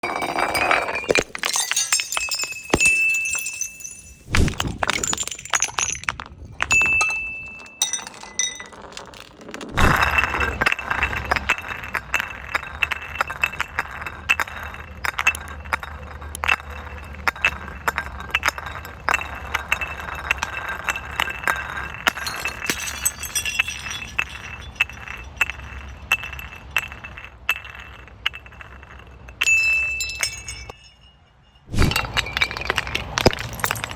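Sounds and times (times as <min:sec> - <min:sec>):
glass bottles clinking and breaking: 0:00.0 - 0:33.9.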